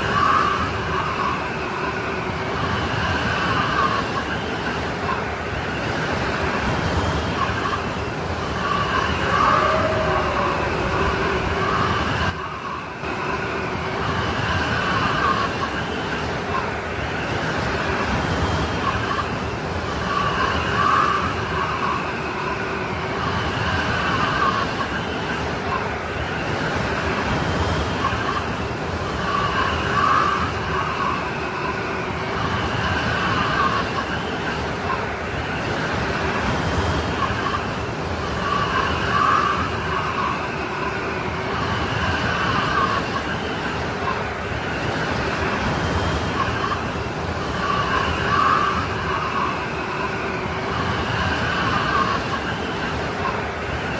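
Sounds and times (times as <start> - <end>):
howling snowstorm wind: 0.0 - 53.9.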